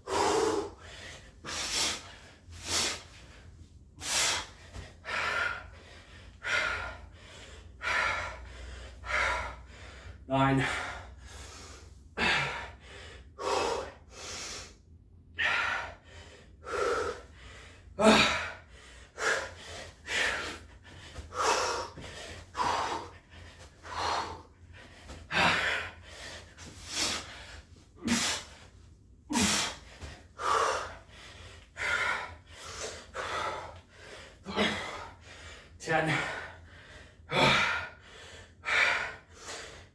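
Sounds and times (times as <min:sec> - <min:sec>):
man panting hard: 0:00.0 - 0:39.9.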